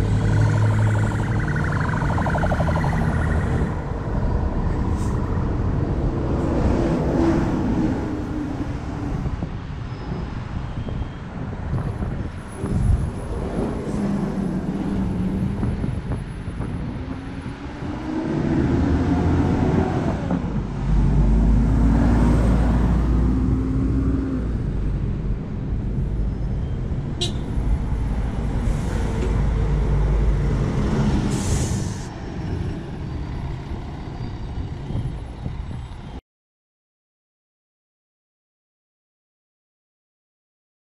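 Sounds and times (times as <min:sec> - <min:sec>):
bus engine rumble: 0:00.0 - 0:36.2.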